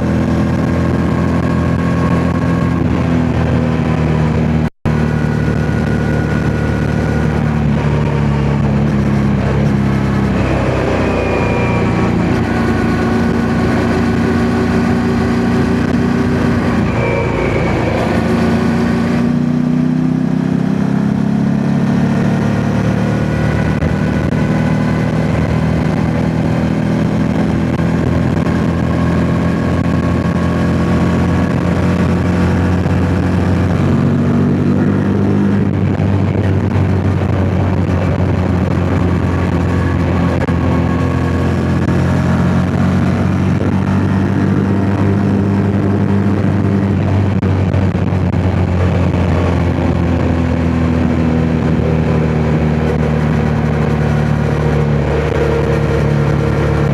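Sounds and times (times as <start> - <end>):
motorcycle engine revving: 0.0 - 56.9
wind noise on microphone: 0.0 - 56.9.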